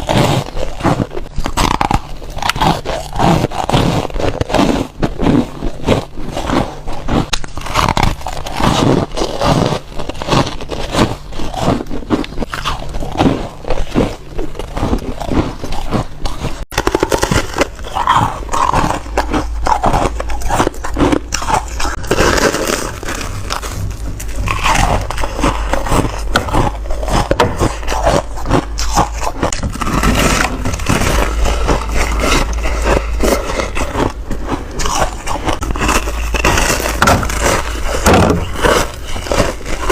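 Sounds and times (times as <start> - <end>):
crunching foam ice: 0.0 - 39.9
low steady hum: 0.0 - 39.9.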